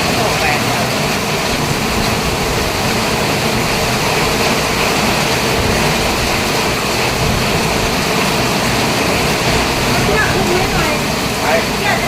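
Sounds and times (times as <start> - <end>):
rushing noise of moving vehicle: 1.2 - 11.6.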